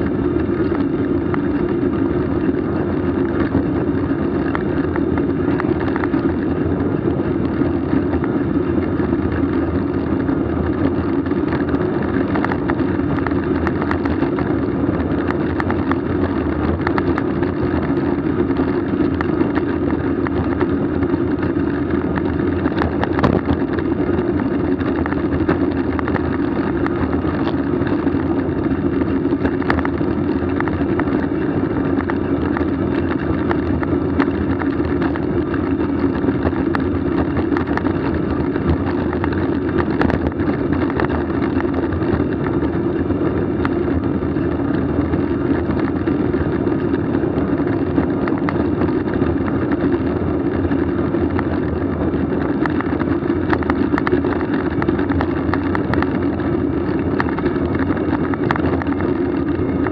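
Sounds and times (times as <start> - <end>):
constant hum: 0.0 - 59.9
ride rolling rumble: 0.0 - 59.9.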